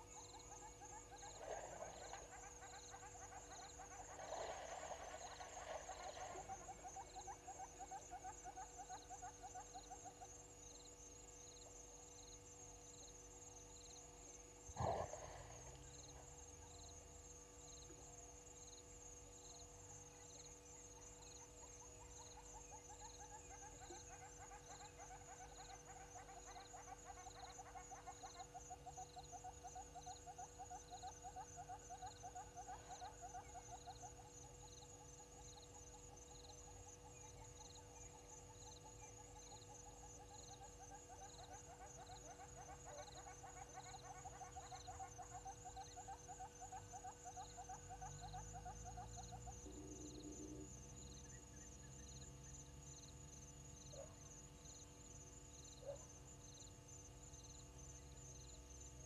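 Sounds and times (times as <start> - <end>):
insects chirping and buzzing: 0.0 - 59.0.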